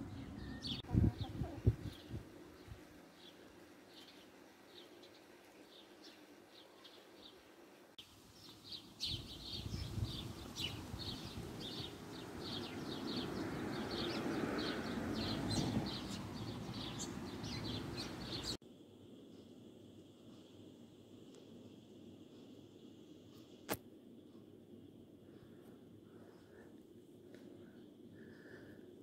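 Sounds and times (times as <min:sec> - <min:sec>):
small birds chirping: 0:00.0 - 0:18.6, 0:21.3 - 0:29.0.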